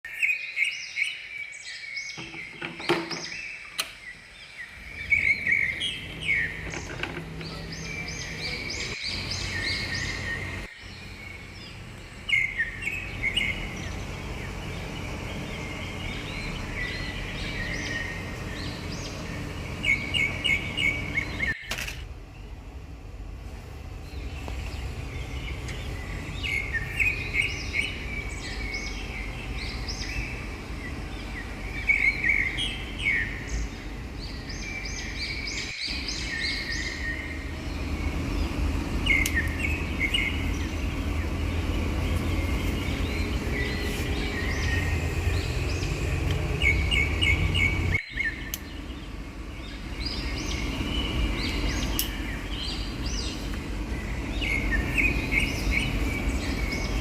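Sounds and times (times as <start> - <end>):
small birds chirping: 0.1 - 57.0
steady low rumble: 4.4 - 57.0.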